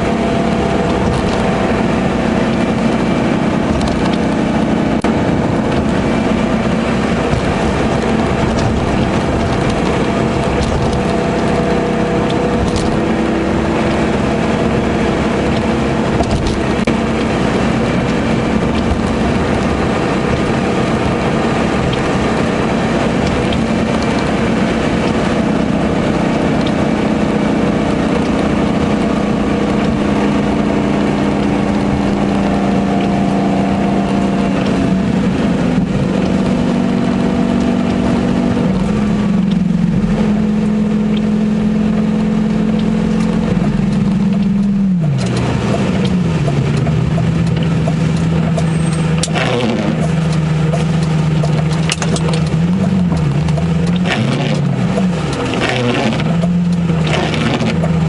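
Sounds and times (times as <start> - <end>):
car engine running at cruise: 0.0 - 58.0
tyre noise on wet road: 0.0 - 58.0
windshield wipers sweeping: 0.0 - 58.0.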